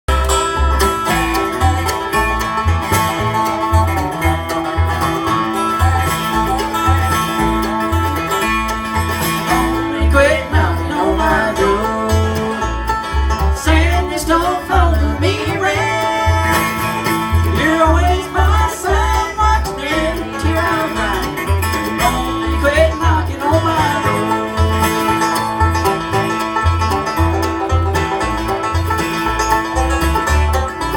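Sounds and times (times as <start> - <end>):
bluegrass band playing: 0.0 - 30.9
bass notes on steady beat: 0.1 - 30.9.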